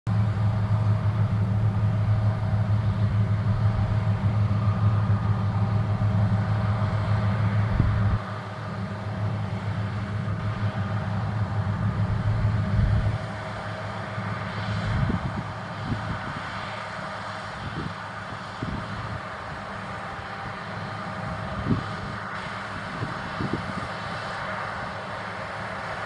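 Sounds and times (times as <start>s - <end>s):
combine harvester engine droning: 0.1s - 26.0s.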